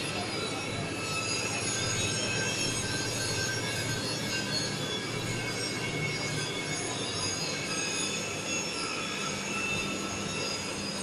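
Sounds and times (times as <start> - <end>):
high-pitched metallic tones: 0.0 - 11.0.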